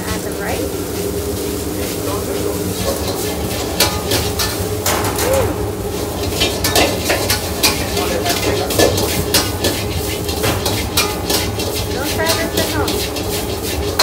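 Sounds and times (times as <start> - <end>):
food sizzling: 0.0 - 14.0
metal utensil scraping a wok: 0.1 - 14.0.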